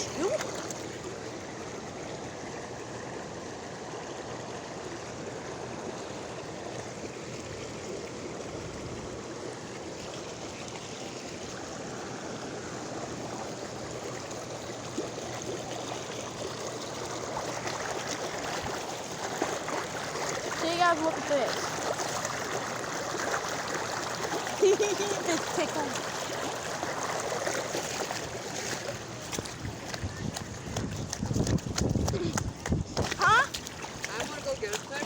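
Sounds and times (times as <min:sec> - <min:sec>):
floodwater rushing: 0:00.0 - 0:35.0.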